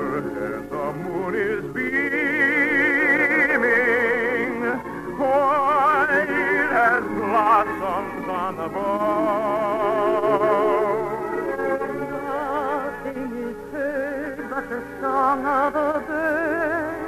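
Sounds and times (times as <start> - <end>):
operatic singing with vibrato: 0.0 - 17.0.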